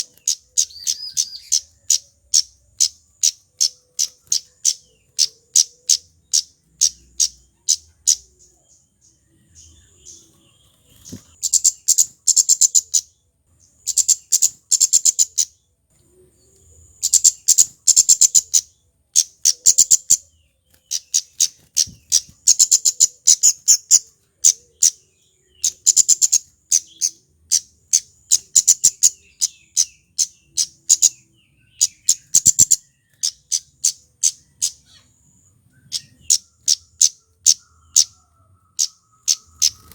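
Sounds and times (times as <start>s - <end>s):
bird calling with high ticks: 0.0s - 8.6s, 9.6s - 13.1s, 13.8s - 15.6s, 16.4s - 39.9s.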